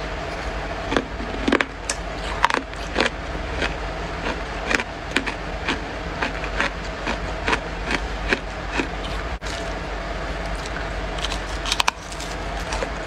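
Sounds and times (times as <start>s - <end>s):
steady low hum: 0.0s - 13.0s
crisp chewing crunches: 0.8s - 9.8s, 10.4s - 13.0s.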